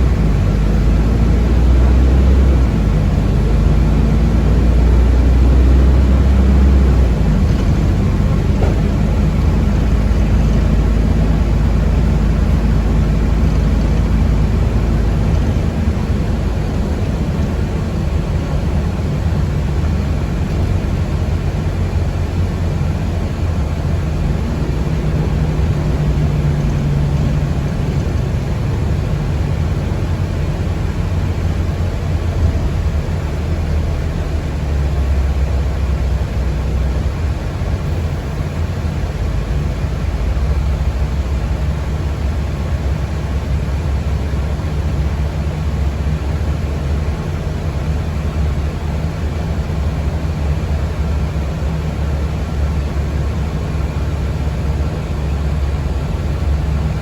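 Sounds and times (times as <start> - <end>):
road and motor rumble in vehicle cabin: 0.0 - 57.0.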